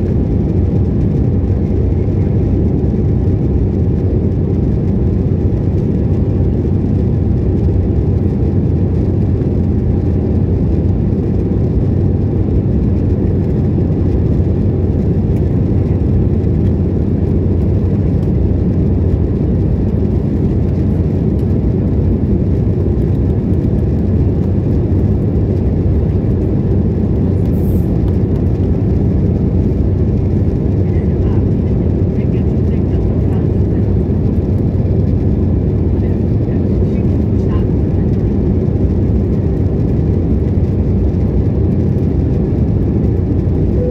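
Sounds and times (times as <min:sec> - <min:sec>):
aircraft cabin engine rumble: 0:00.0 - 0:43.9.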